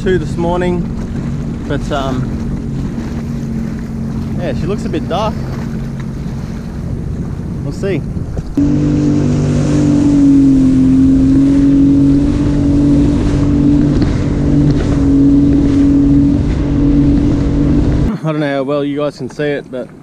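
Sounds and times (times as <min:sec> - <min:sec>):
jet ski engine droning: 0:00.0 - 0:20.0
wind and water noise: 0:00.0 - 0:20.0.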